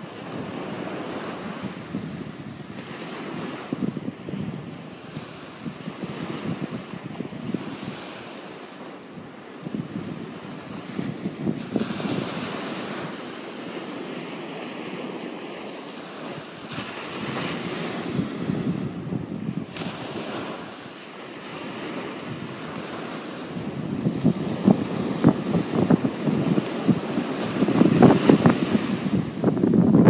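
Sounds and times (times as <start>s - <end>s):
wind buffeting microphone: 0.0s - 15.4s, 16.0s - 30.0s
ocean surf breaking on beach: 0.0s - 30.0s.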